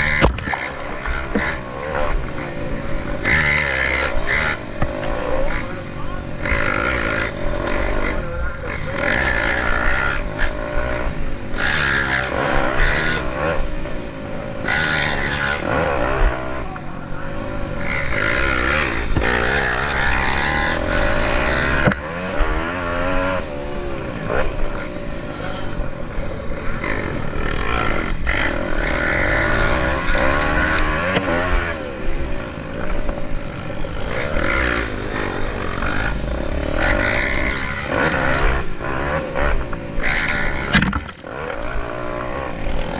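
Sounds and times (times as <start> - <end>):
pit bike engines revving: 0.0 - 42.9.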